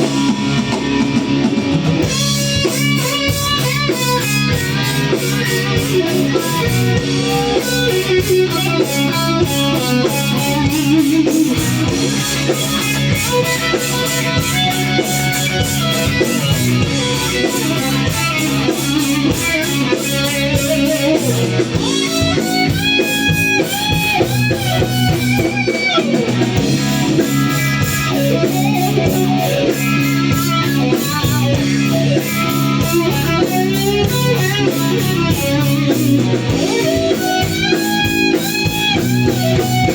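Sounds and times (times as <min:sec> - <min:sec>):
bass guitar: 0:00.0 - 0:39.9
drums: 0:00.0 - 0:39.9
electric guitar: 0:00.0 - 0:39.9.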